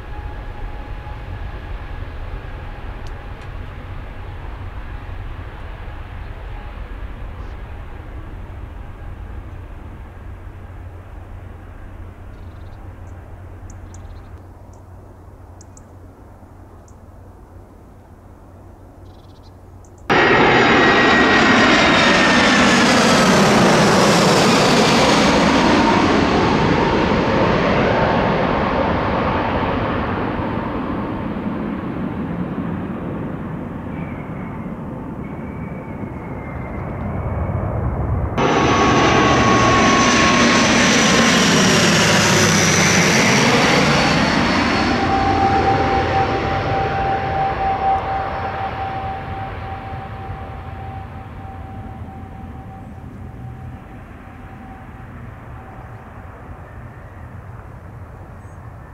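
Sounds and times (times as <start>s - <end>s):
airliner engines passing: 0.0s - 58.9s.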